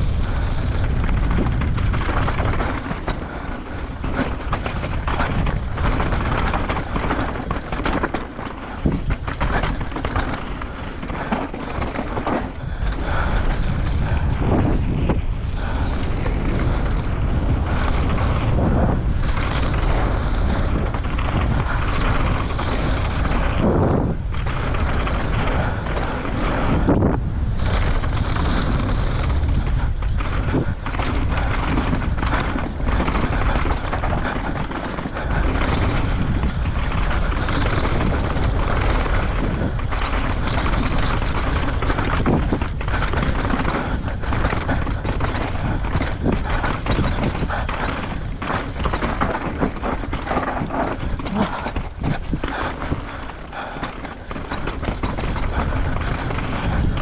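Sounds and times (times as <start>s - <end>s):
tyres on dusty trail: 0.0s - 57.0s
wind rumble on microphone: 0.0s - 57.0s
bike knocking over bumps: 0.3s - 13.4s, 17.4s - 57.0s.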